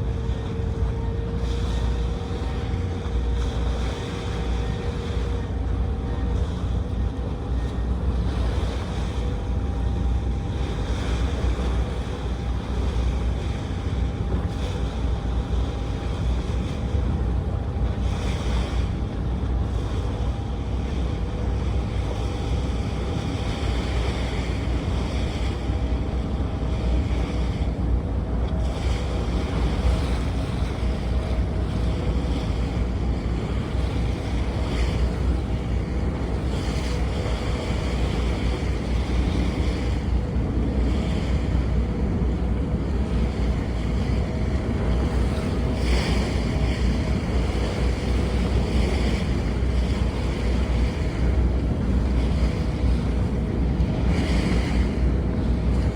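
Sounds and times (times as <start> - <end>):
boat engine running: 0.0 - 55.9
water rushing past hull: 0.0 - 55.9
wind buffeting microphone: 0.0 - 55.9.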